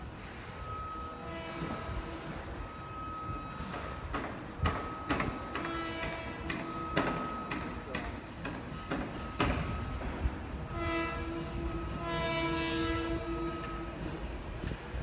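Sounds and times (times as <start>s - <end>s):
multi-tone train horn blasts: 0.4s - 4.2s, 4.8s - 7.8s, 8.8s - 14.5s.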